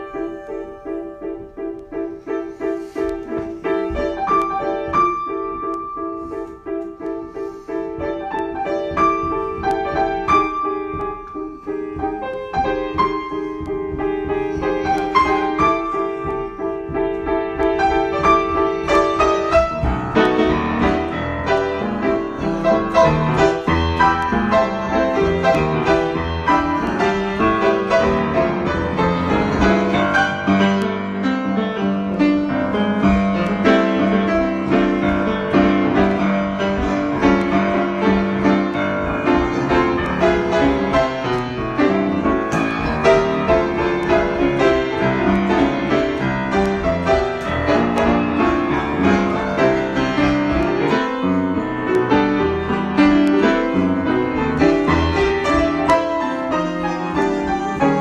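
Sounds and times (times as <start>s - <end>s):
improvised grand piano: 0.0s - 58.0s.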